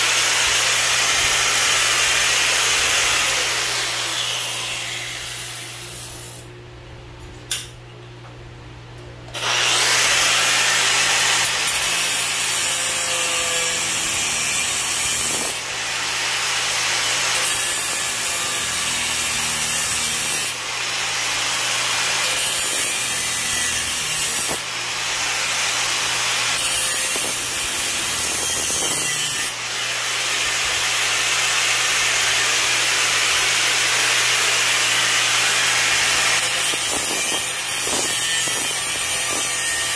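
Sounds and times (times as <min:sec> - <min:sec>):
angle grinder cutting pipe: 0:00.0 - 0:06.5, 0:09.3 - 0:39.9.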